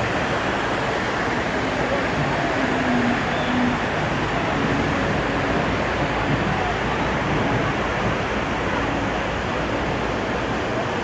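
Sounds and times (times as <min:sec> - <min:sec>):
floodwater rushing in river: 0:00.0 - 0:11.0.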